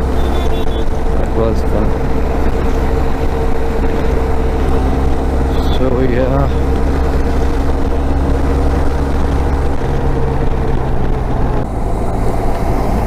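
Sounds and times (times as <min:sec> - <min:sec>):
heavy wind rumble: 0:00.0 - 0:13.0
motorcycle engine running: 0:00.0 - 0:13.0.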